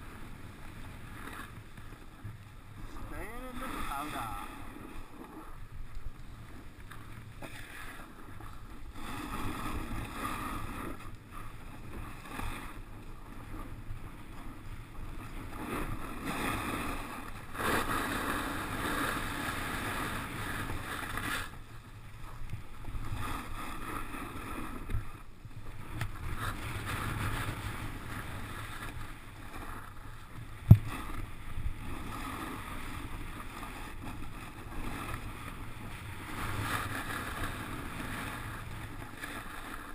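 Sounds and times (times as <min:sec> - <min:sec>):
snowboard scraping over snow: 0:00.0 - 0:39.9.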